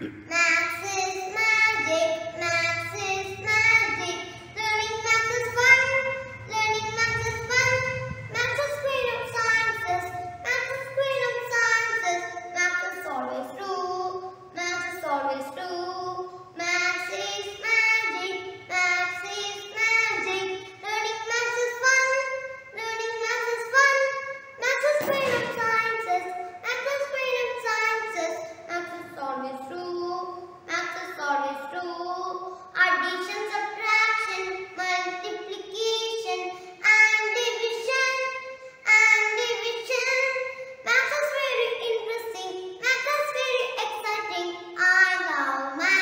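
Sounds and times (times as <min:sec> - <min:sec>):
boy singing unaccompanied: 0:00.0 - 0:46.0.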